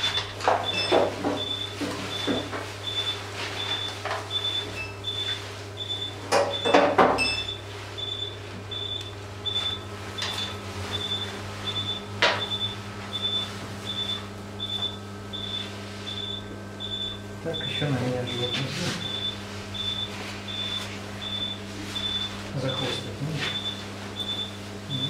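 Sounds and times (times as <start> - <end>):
patient monitor pulse beeps: 0.0 - 25.0
steady equipment hum: 0.0 - 25.0.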